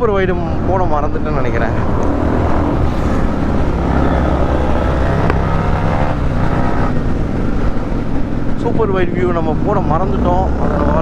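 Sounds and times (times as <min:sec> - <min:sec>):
many motorcycle engines running: 0:00.0 - 0:11.0.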